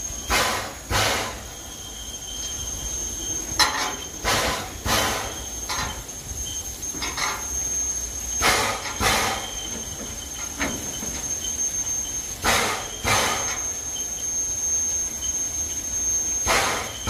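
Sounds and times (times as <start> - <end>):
steady hiss of steam: 0.0 - 17.0
steam locomotive blasts: 0.0 - 17.0.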